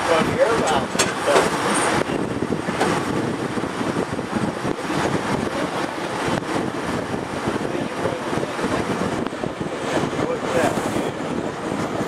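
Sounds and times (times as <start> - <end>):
train car rumbling on track: 0.0 - 12.0.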